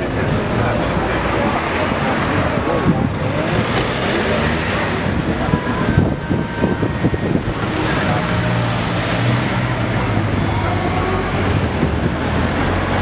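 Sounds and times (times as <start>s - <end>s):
traffic passing close: 0.0s - 13.0s.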